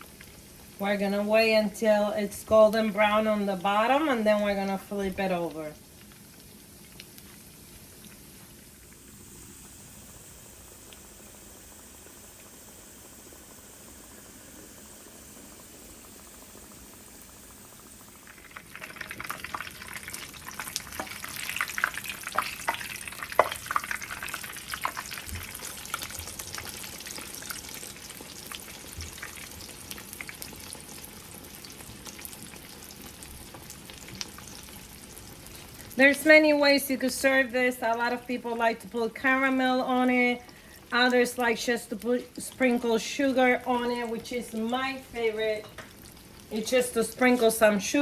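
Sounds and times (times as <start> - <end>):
dough sizzling in hot fat: 0.0 - 48.0
fat crackling and popping: 2.2 - 14.4, 15.4 - 48.0.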